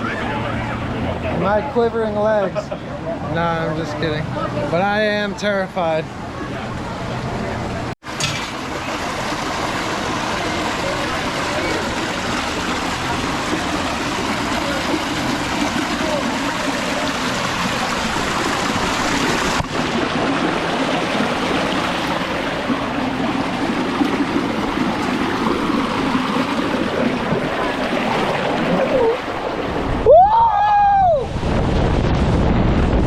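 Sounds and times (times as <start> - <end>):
running water rushing: 3.4 - 32.4.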